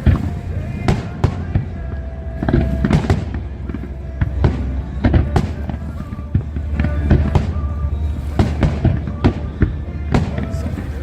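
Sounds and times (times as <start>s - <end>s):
low rumble: 0.0s - 11.0s
music playing: 0.0s - 11.0s.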